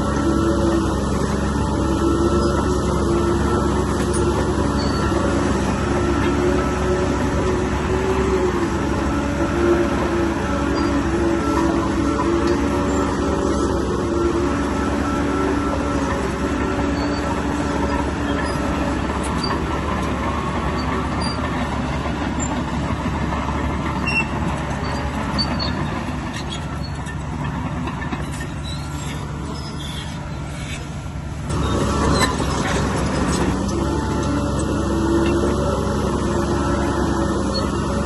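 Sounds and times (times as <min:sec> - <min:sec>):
diesel engine under load: 0:00.0 - 0:38.0
steel tracks clanking and squealing: 0:00.0 - 0:38.0.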